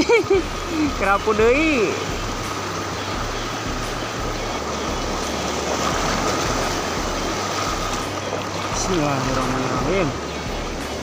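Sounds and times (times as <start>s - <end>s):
surf washing over rocks: 0.0s - 11.0s
wind rumbling on microphone: 0.2s - 11.0s.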